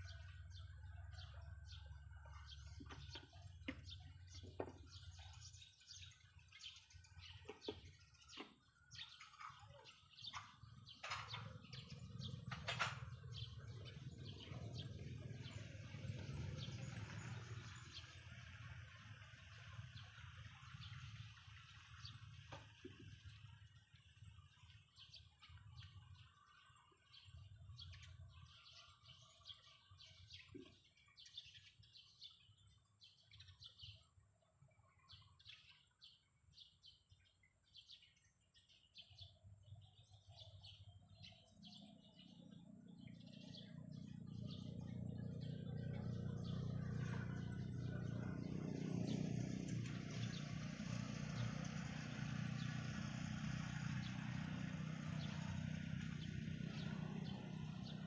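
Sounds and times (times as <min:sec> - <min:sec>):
low motor noise: 0:00.0 - 0:58.0
small birds chirping: 0:00.0 - 0:58.0.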